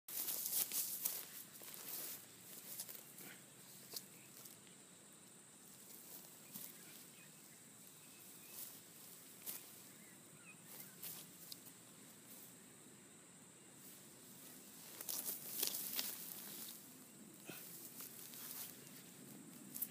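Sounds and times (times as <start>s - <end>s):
person moving on grass: 0.1s - 12.9s, 13.7s - 19.9s
faint outdoor hiss: 0.1s - 19.9s.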